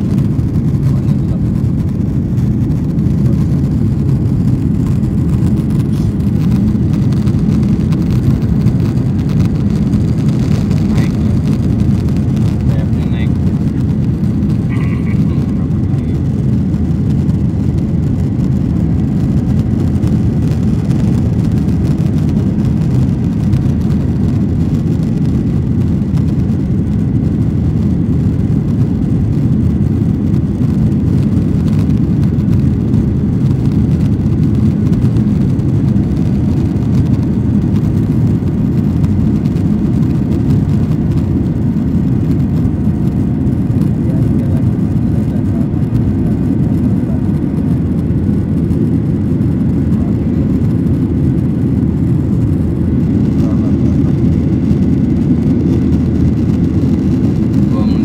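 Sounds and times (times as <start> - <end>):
airplane low rumble: 0.0 - 58.0.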